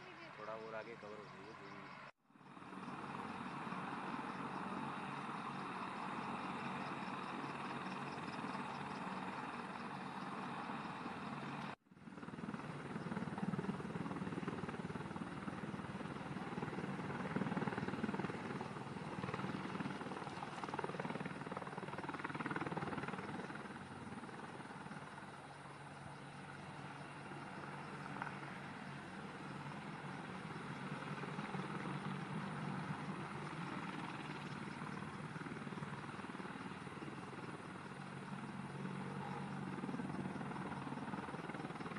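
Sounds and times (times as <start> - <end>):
helicopter rotors and engines: 0.0 - 41.9.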